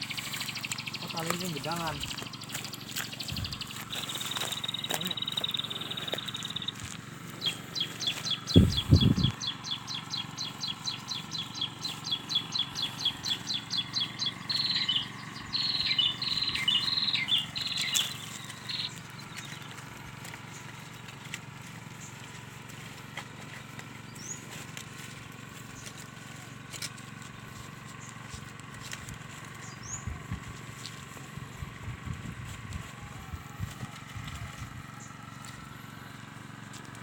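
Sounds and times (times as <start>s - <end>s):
songbird chirping: 0.0s - 31.7s.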